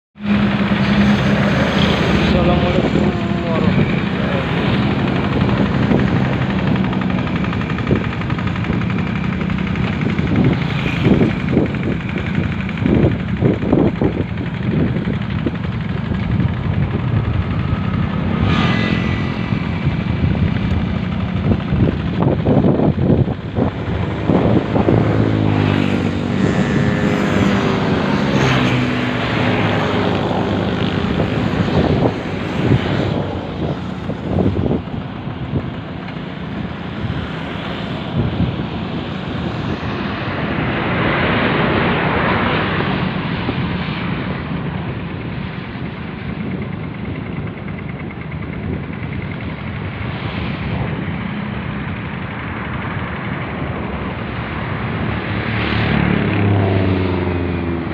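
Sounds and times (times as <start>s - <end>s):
engine running: 0.2s - 57.9s.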